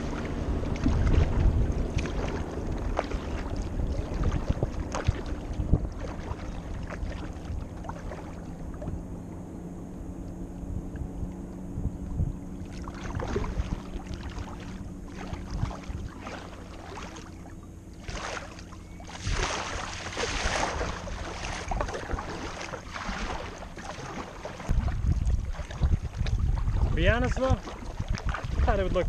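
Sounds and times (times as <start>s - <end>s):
paddle splashing in water: 0.0s - 9.4s, 12.5s - 28.9s
steady low hum: 0.0s - 29.0s.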